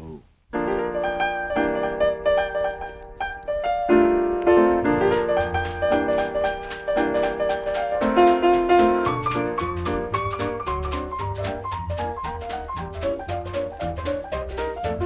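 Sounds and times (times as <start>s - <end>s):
piano music: 0.6s - 15.0s.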